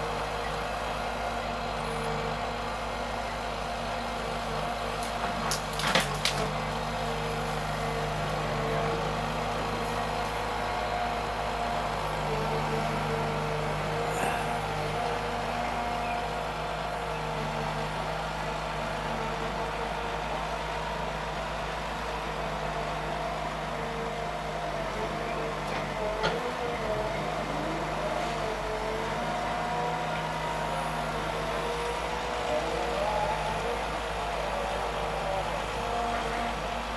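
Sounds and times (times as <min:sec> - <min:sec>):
harvester engine running under load: 0:00.0 - 0:36.9.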